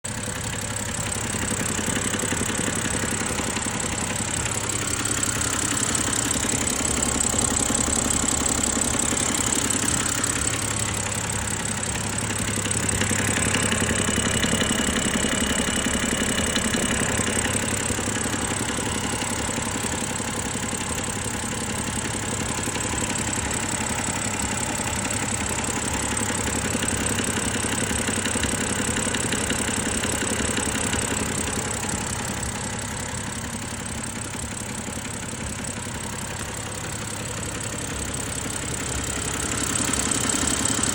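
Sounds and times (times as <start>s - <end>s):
car engine idling: 0.0s - 40.9s
engine knock: 0.0s - 40.9s.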